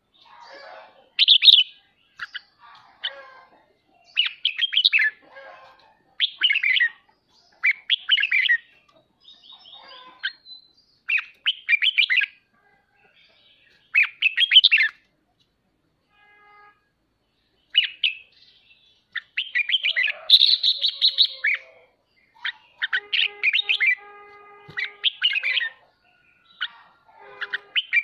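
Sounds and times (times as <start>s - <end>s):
bulbul chattering calls: 0.2s - 5.3s, 6.2s - 12.4s, 13.4s - 15.0s, 17.7s - 28.0s.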